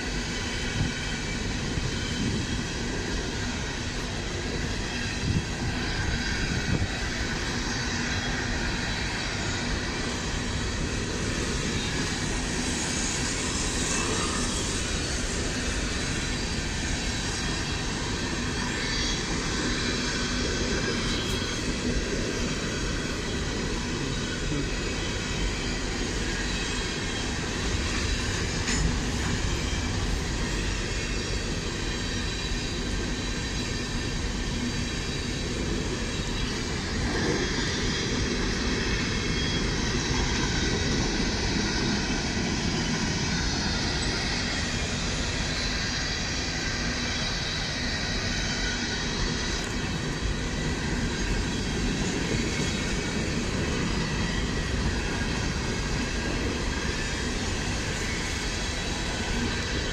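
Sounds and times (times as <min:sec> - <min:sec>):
steel wheels clattering on rails: 0:00.0 - 0:59.9.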